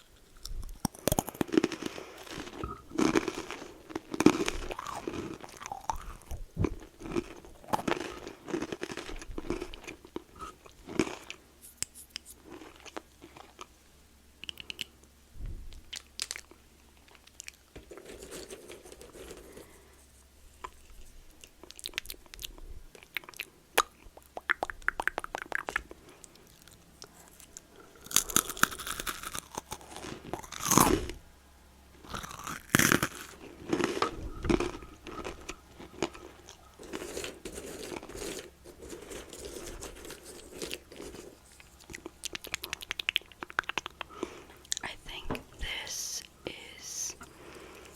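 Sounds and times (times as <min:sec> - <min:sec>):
crunching and chewing snack: 0:00.0 - 0:13.8, 0:14.4 - 0:15.0, 0:15.7 - 0:31.3, 0:32.0 - 0:45.0.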